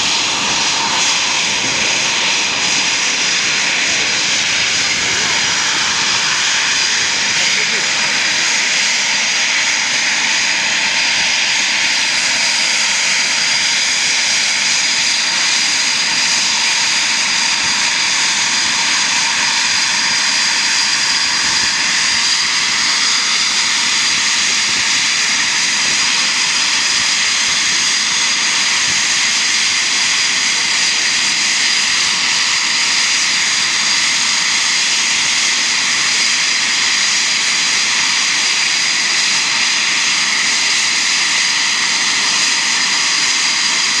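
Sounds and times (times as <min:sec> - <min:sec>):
jet engines idling: 0:00.0 - 0:44.0.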